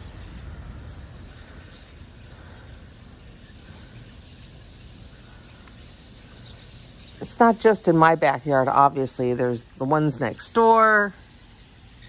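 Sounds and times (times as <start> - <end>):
flock of birds chirping: 0.0 - 12.0
low outdoor rumble: 0.0 - 12.0.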